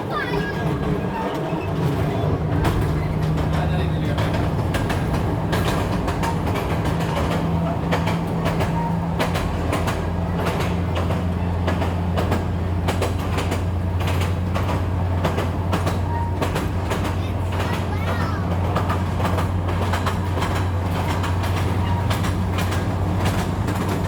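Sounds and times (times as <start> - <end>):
train engine drone: 0.0 - 24.0
wheels clacking over rail joints: 0.0 - 24.0.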